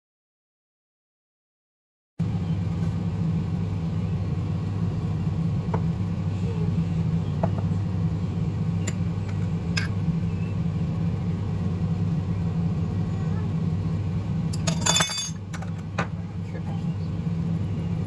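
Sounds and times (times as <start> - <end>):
low machine hum: 2.2 - 18.0.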